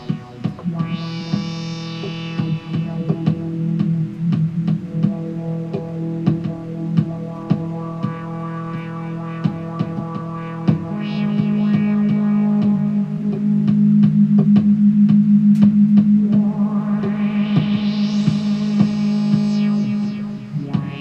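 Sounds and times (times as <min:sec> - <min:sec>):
synth ambient trance music: 0:00.0 - 0:21.0.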